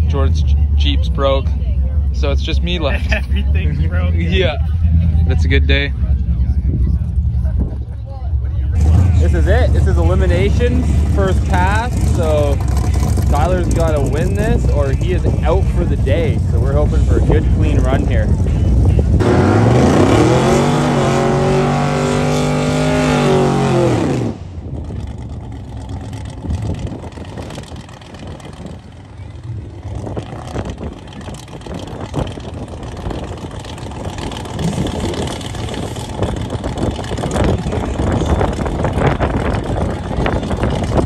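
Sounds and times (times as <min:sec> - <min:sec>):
drag racing engines revving: 0:00.0 - 0:41.0
wind: 0:00.0 - 0:41.0.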